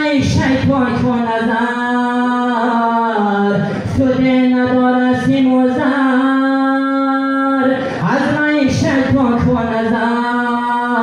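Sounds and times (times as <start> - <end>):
man singing through microphone: 0.0 - 11.0.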